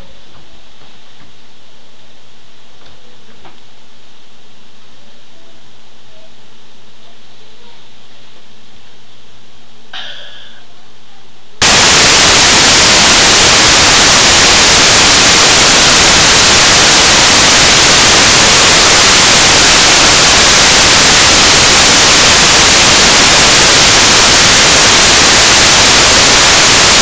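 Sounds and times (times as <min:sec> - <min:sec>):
loud static hiss: 0:00.0 - 0:27.0.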